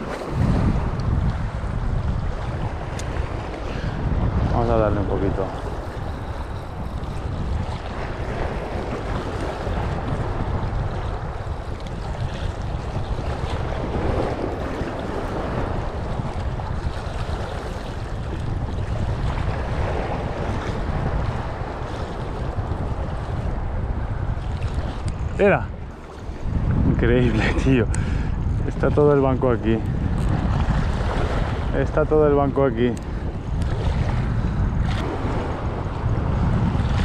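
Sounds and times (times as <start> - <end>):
small sea waves washing: 0.0 - 37.0
wind on microphone: 0.0 - 37.0.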